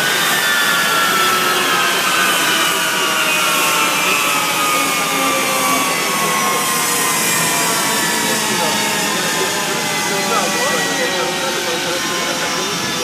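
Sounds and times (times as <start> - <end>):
jet engines spooling down: 0.0 - 13.0.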